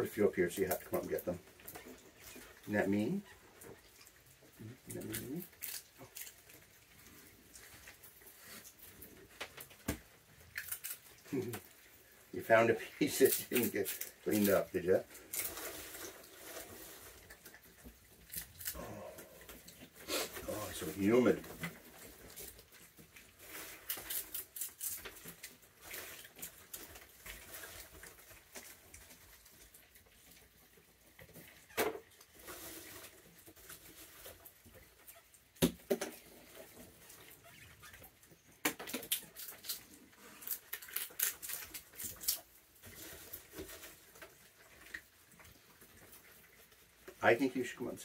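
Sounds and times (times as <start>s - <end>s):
raccoon crunching treats: 0.2s - 37.4s, 38.0s - 48.0s.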